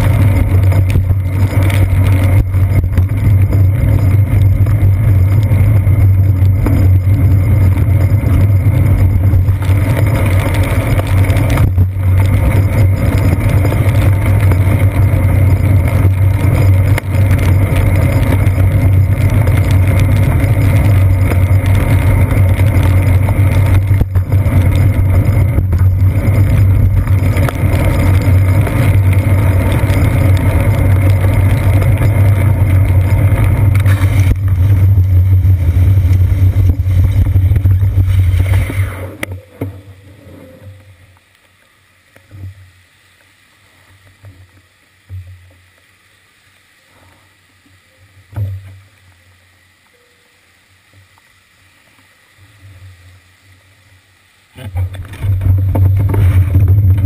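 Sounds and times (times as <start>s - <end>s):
low rumble of road vibration: 0.0s - 57.0s
wind: 0.0s - 57.0s.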